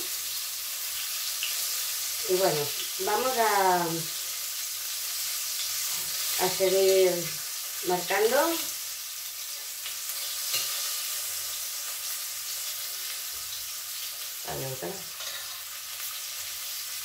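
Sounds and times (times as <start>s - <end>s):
ribs sizzling in a frying pan: 0.0s - 17.0s.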